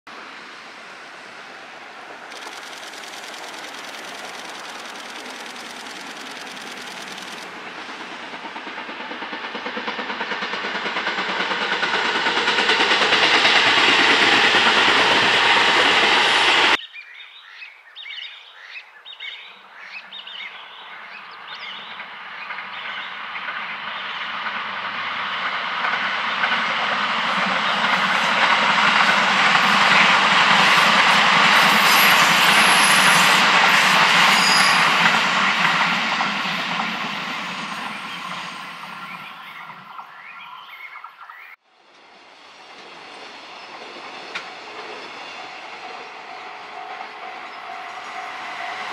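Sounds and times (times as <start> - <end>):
electric train running past: 0.1 - 16.8, 18.1 - 48.9.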